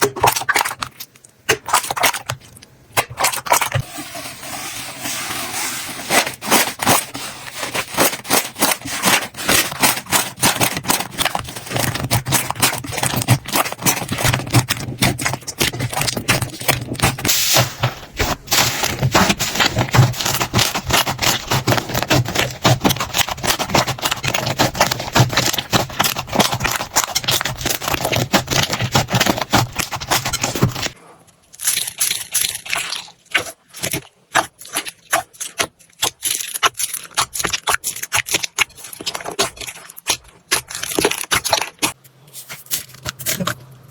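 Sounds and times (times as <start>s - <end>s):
slime crackling and popping: 6.4s - 31.0s, 31.6s - 43.6s.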